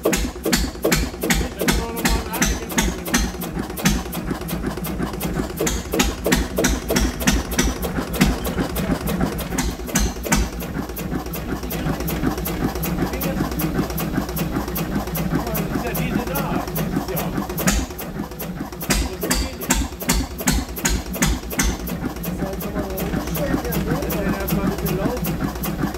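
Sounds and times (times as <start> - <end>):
stationary engine running slowly: 0.0 - 25.9.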